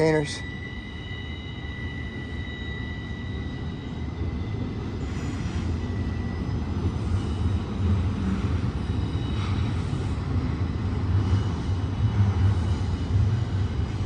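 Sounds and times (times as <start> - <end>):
freight train rumbling past: 0.0 - 14.0
thin high ringing tone: 0.0 - 14.0.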